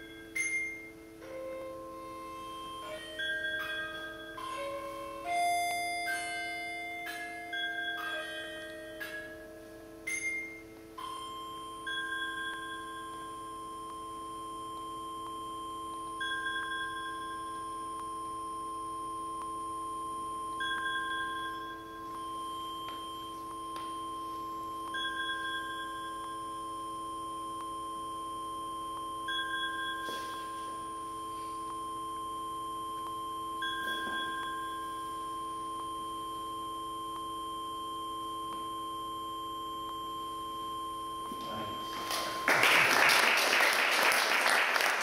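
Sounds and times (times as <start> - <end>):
drone of held tones: 0.0 - 45.0.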